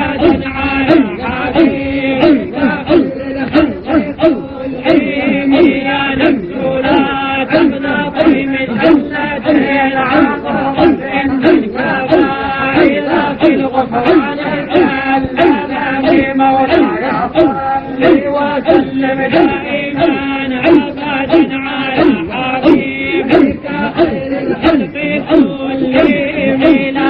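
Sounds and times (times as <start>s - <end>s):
men chanting: 0.0s - 27.0s.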